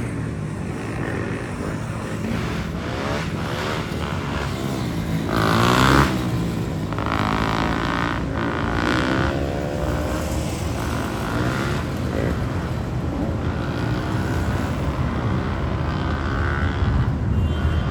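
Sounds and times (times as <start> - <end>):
motorcycles riding past revving: 0.0 - 17.9.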